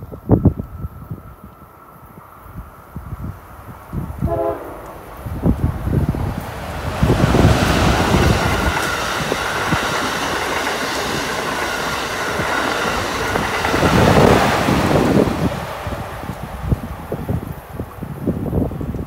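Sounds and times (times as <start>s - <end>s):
high-speed train passing: 0.0s - 19.0s.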